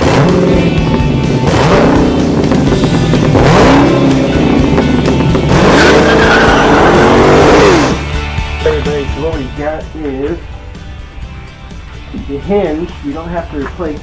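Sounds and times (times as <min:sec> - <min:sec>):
car engine revving: 0:00.0 - 0:13.4
music: 0:00.0 - 0:14.0.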